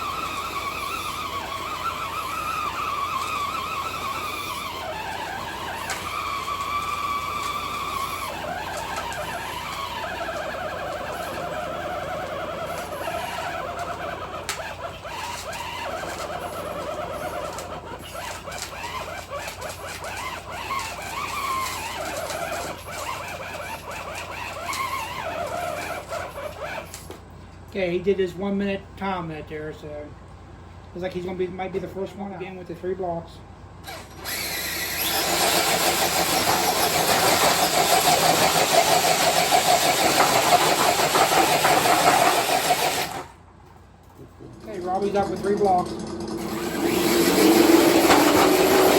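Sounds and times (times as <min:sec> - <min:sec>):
electric motor whine: 0:00.0 - 0:26.9, 0:33.8 - 0:43.4, 0:44.6 - 0:48.9.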